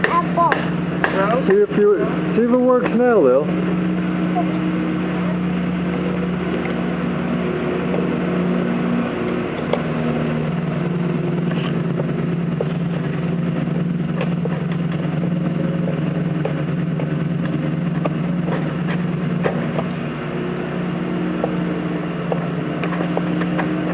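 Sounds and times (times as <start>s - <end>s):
motor hum: 0.0s - 23.9s.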